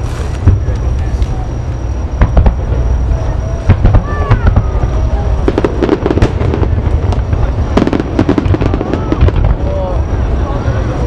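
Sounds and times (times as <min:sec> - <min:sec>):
fireworks bursting: 0:00.0 - 0:10.8
low rumble: 0:00.0 - 0:11.0.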